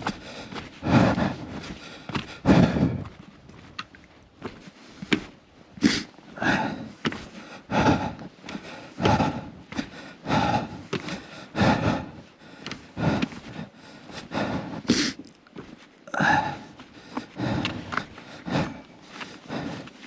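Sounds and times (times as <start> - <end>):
person breathing hard: 0.0 - 3.2, 4.7 - 20.0.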